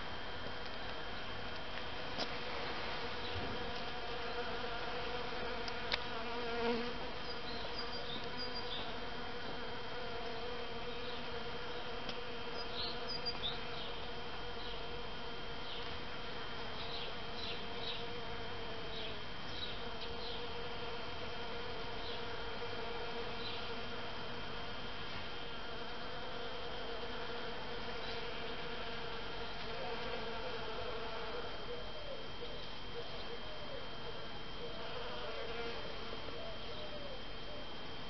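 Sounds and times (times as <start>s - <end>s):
steady buzzing hum: 0.0s - 38.0s.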